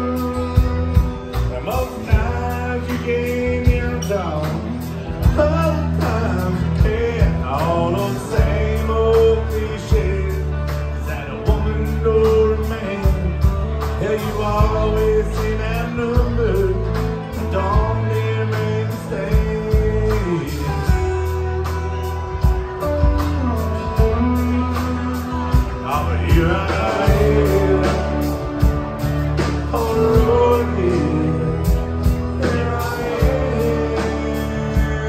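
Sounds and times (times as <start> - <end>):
man singing: 0.0 - 22.5, 23.2 - 35.0
live country band playing: 0.0 - 35.0.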